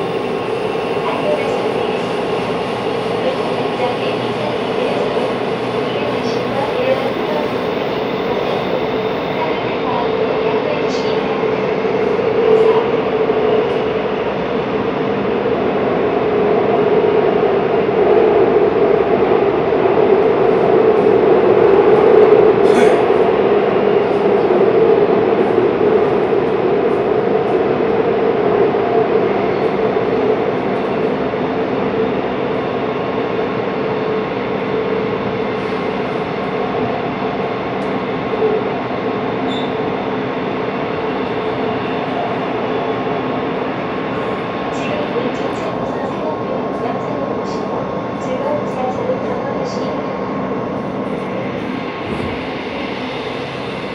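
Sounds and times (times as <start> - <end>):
train rumbling through tunnel: 0.0 - 53.9.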